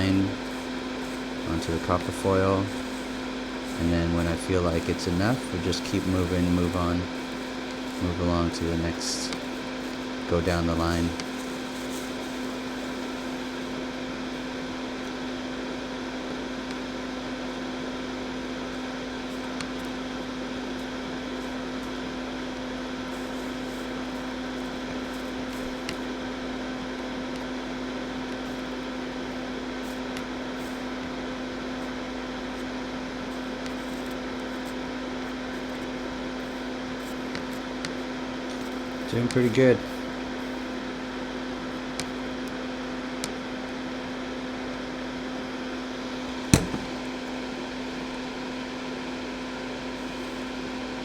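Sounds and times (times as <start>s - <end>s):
steady mechanical hum: 0.0s - 51.0s.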